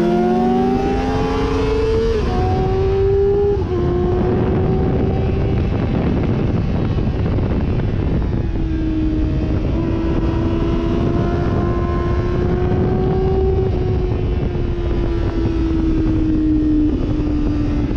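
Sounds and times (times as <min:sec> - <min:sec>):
wind noise: 0:00.0 - 0:17.9
motorcycle engine running: 0:00.8 - 0:17.9.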